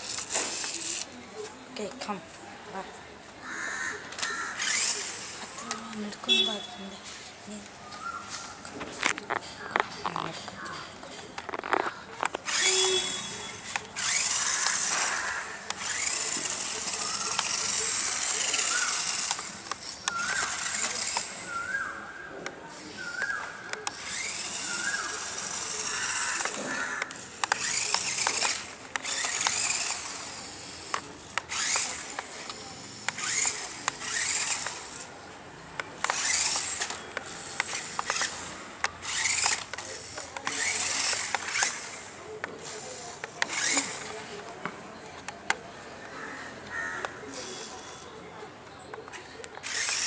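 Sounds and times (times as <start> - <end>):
toy electric motor whirring: 0.0 - 2.0, 4.1 - 45.6, 47.1 - 48.2, 49.1 - 50.0.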